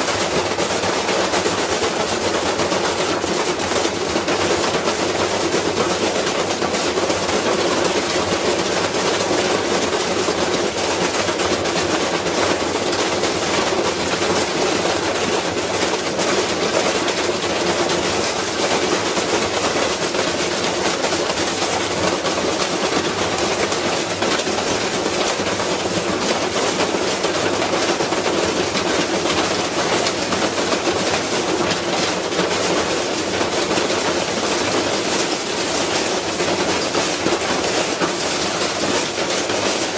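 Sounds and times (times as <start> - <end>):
washing machine clattering and banging: 0.0 - 39.9.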